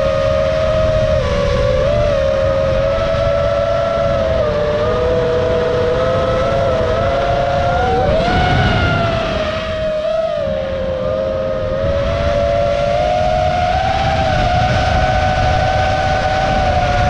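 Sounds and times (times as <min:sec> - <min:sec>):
drone motors whining: 0:00.0 - 0:17.0
wind rush on microphone: 0:00.0 - 0:17.0.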